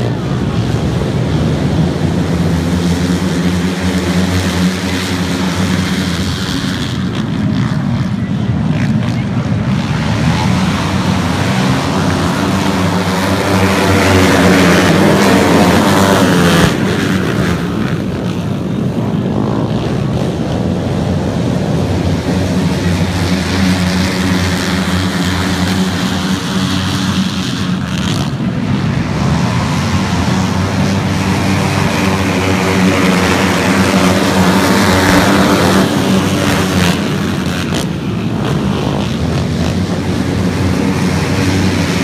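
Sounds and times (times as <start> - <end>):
racing motorcycles revving: 0.0 - 42.0.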